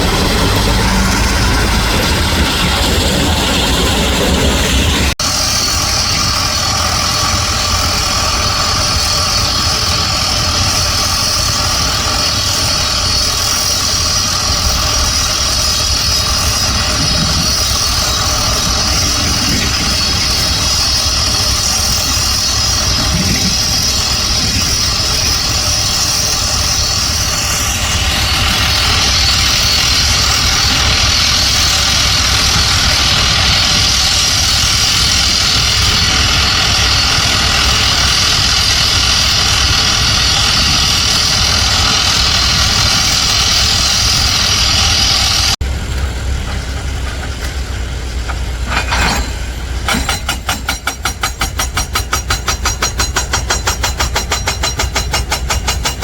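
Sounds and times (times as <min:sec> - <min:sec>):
diesel engine idling: 0:00.0 - 0:51.8.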